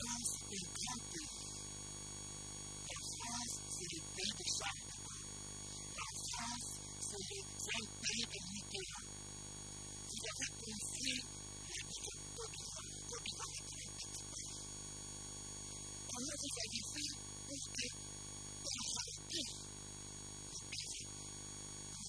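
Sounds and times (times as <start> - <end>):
electrical mains hum and buzz: 0.0 - 22.0.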